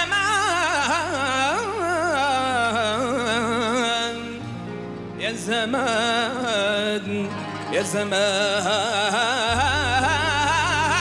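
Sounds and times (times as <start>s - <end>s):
low instrumental accompaniment: 0.0s - 11.0s
man singing with vibrato: 0.0s - 11.0s.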